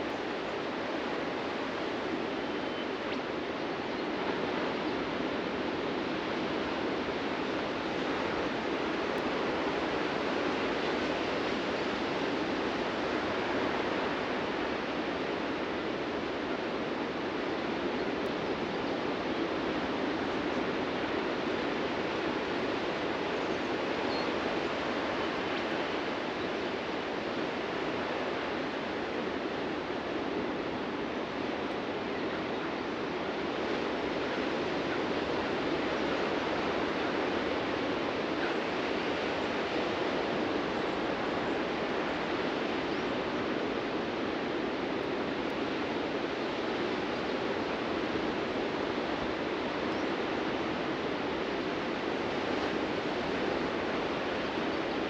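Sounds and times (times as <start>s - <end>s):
ocean surf on a beach: 0.0s - 55.0s.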